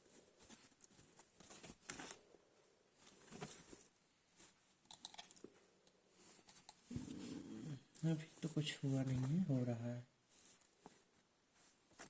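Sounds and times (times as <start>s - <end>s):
fabric rustling: 0.0s - 4.8s, 5.4s - 12.0s.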